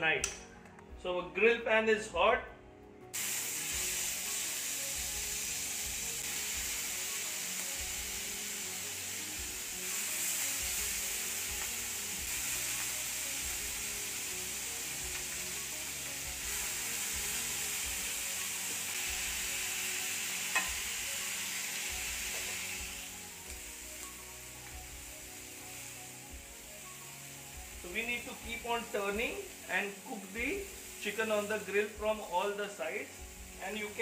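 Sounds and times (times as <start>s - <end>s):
chicken sizzling on grill pan: 3.2s - 34.0s.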